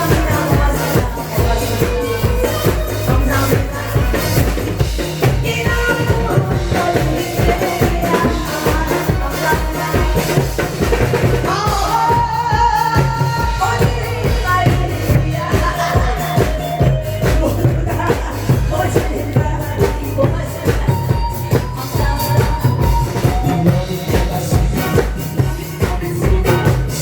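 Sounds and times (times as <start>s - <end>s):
upbeat music with bass drum: 0.0s - 27.0s.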